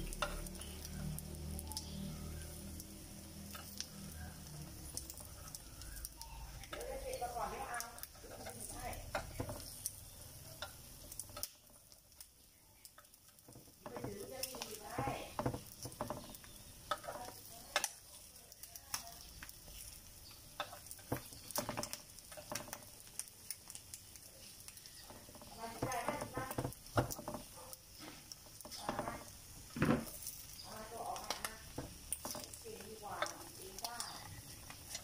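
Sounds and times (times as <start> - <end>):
metal spoon scraping a pan: 0.0 - 2.6, 3.4 - 12.2, 13.0 - 35.0
eggs sizzling in a pan: 0.0 - 35.0.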